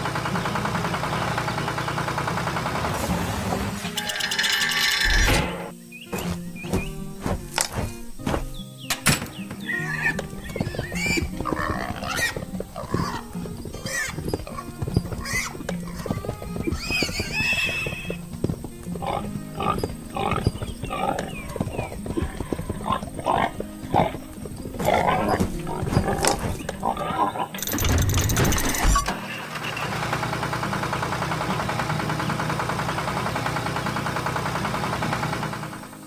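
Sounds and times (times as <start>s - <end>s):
background music: 0.0s - 36.0s.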